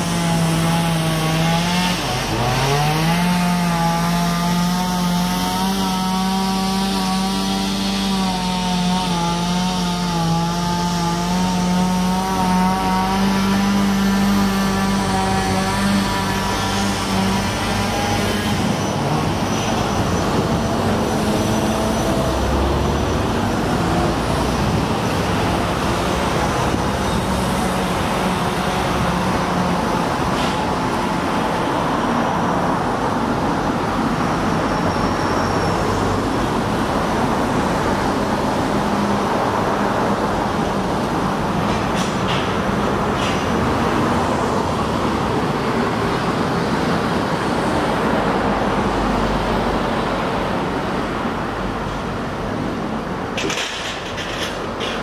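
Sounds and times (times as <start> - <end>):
passing vehicle engines: 0.0 - 55.0.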